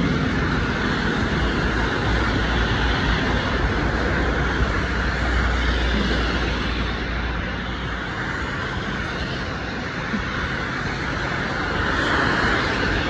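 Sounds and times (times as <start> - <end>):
cars passing on wet road: 0.0 - 13.0
heavy rain hiss: 0.0 - 13.0.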